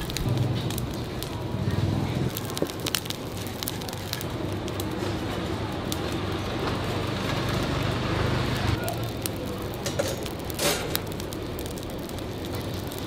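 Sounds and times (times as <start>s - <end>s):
charcoal crackling and popping: 0.0s - 13.0s
low steady rumble: 0.0s - 13.0s.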